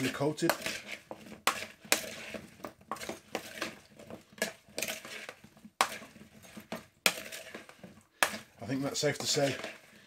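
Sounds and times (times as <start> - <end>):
metal spoon scraping mixing bowl: 0.0 - 10.0.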